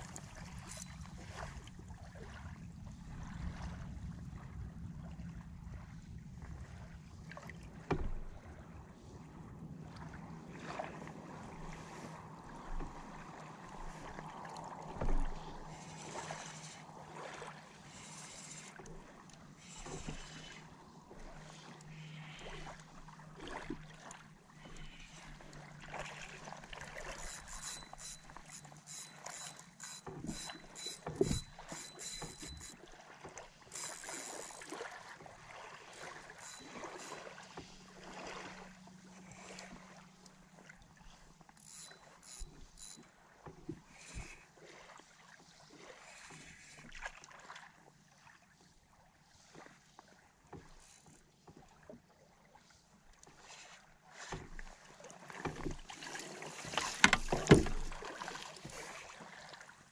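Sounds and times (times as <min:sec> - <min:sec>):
water lapping against boat hull: 0:00.0 - 0:59.9.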